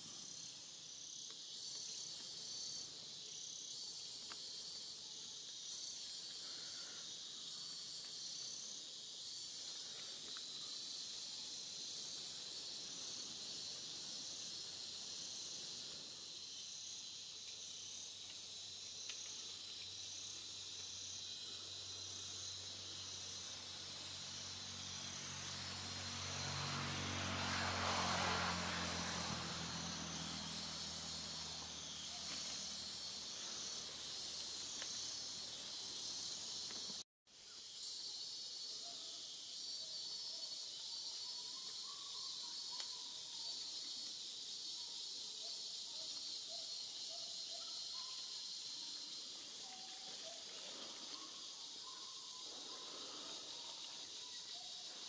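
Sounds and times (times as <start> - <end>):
insects hissing: 0.0 - 55.0.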